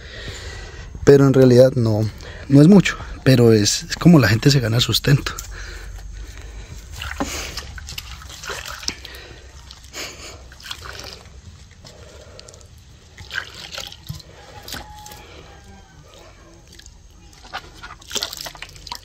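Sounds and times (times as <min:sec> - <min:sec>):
water trickling and splashing: 0:02.1 - 0:19.0.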